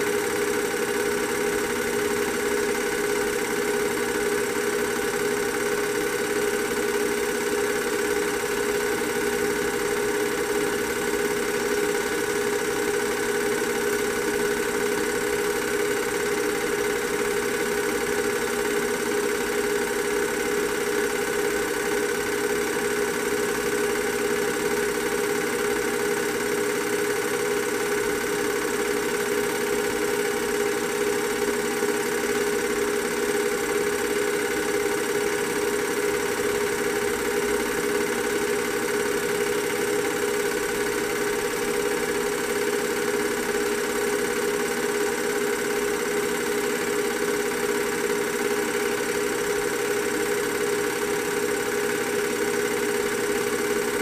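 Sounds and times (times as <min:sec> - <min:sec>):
film projector whirring: 0:00.0 - 0:54.0.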